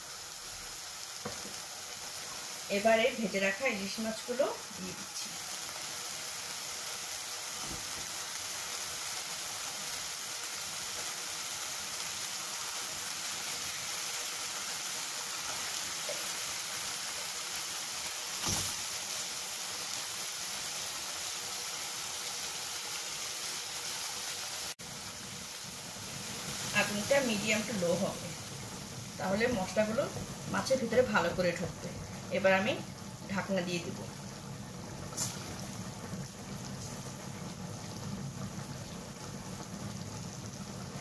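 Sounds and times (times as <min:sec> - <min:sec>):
gravy bubbling and sizzling in pan: 0:00.0 - 0:41.0.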